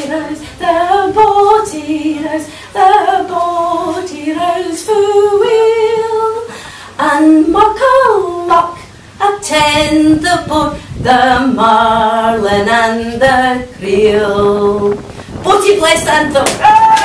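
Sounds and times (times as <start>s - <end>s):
woman singing long sliding notes: 0.0s - 17.0s.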